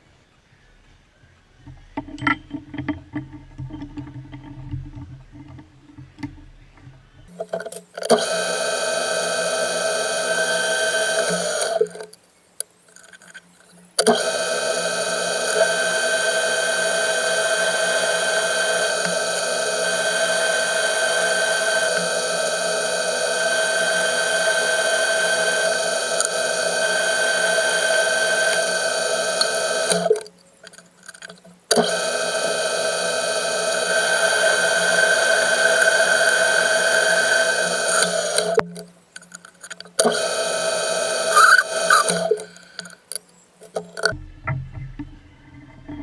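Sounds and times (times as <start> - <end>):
machine tool motor whining: 7.3 - 44.2.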